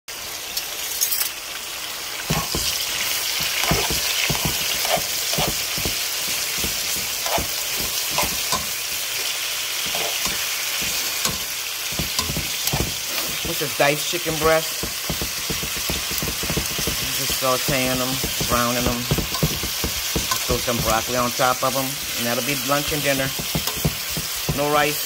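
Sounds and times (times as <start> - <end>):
chicken sizzling in hot oil: 0.1 - 25.0
spatula scraping pan: 2.2 - 25.0.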